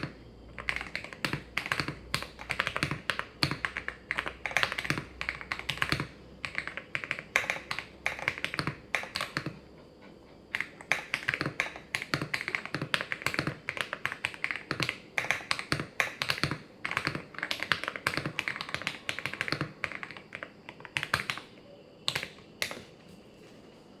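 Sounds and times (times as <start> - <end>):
mechanical keyboard typing: 0.0 - 9.8, 10.5 - 22.8.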